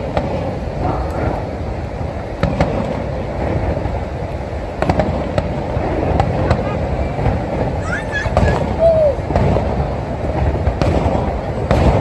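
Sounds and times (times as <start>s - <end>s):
firework cracks: 0.0s - 12.0s
waterfall roaring: 0.0s - 12.0s.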